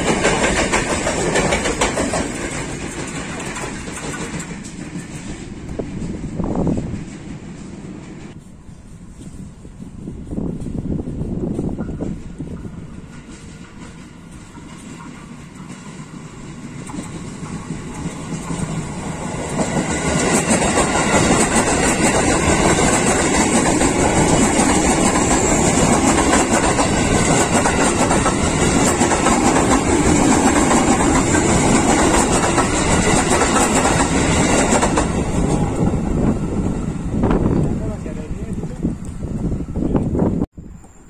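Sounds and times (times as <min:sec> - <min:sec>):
electric train passing on rails: 0:00.0 - 0:41.0.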